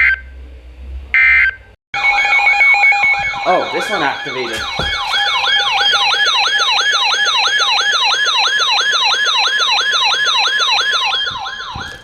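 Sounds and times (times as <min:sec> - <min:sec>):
electronic alert siren wailing: 0:00.0 - 0:00.4, 0:01.1 - 0:12.0
steady electronic tone: 0:00.0 - 0:12.0.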